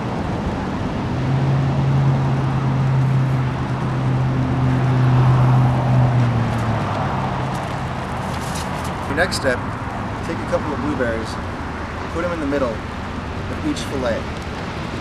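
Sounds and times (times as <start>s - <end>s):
wind: 0.0s - 15.0s
vehicle engine passing: 0.1s - 15.0s.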